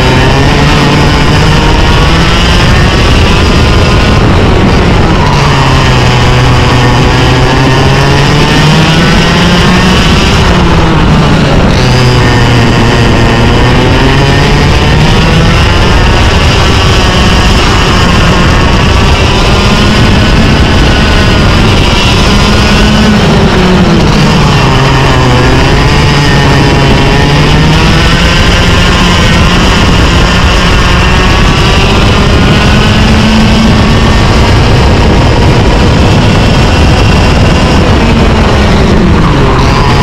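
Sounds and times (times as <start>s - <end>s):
kart engine racing: 0.0s - 40.0s.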